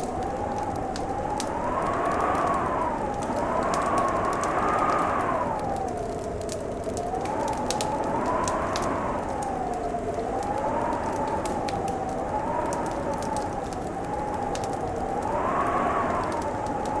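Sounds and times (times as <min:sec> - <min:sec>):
whistling wind: 0:00.0 - 0:17.0
wood fire crackling: 0:00.0 - 0:17.0.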